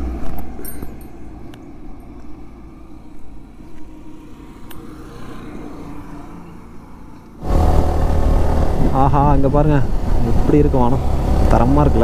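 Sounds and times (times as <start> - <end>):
car passing: 1.2 - 12.0.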